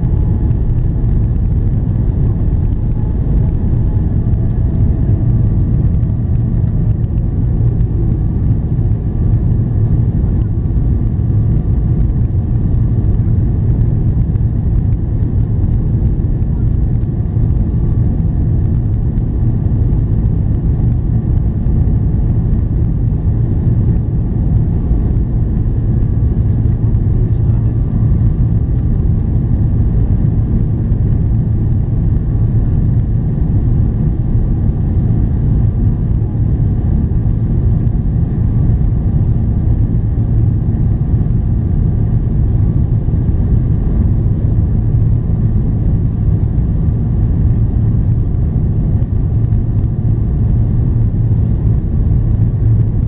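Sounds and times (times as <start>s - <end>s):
jet engines droning: 0.0s - 53.0s.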